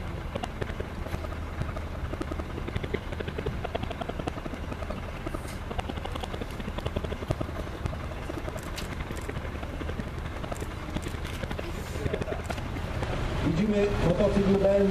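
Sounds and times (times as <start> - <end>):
engine drone with rhythmic pulsing: 0.0 - 14.9.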